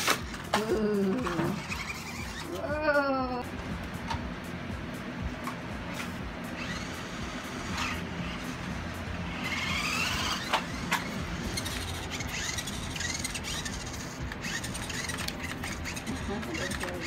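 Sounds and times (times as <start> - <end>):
toy car electric motor whining: 0.0 - 2.8, 5.9 - 17.0.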